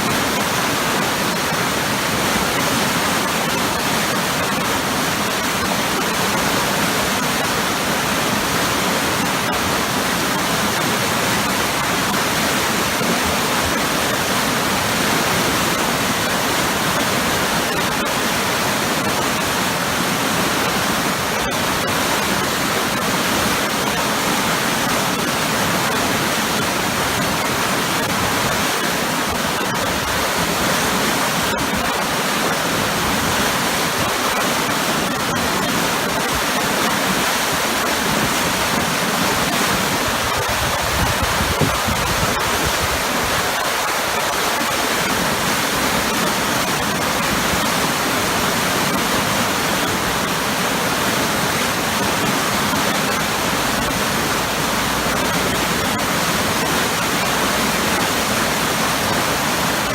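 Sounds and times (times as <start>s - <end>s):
waterfall crashing into pool: 0.0s - 59.9s.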